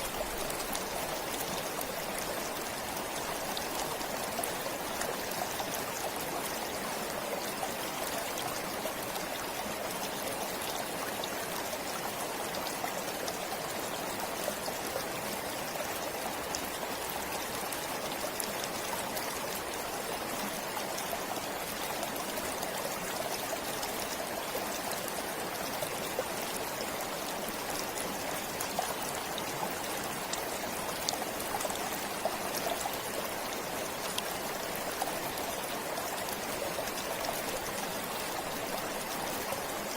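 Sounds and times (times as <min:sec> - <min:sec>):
stream splashing over stones: 0:00.0 - 0:39.9.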